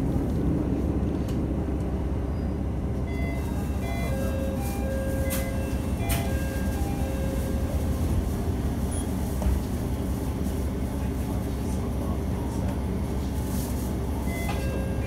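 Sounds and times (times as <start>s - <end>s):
railcar engine and wheels rumbling: 0.0s - 15.0s.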